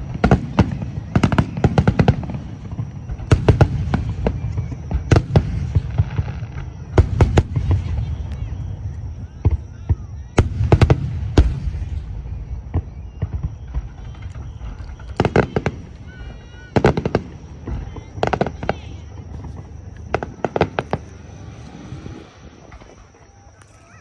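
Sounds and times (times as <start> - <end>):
fireworks cracking bangs: 0.0 - 23.6.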